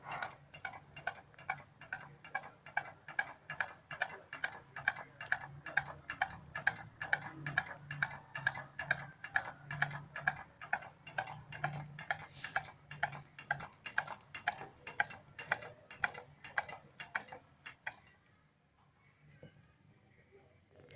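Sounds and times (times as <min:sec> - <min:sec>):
stirling engine rhythmic clicking: 0:00.2 - 0:18.1.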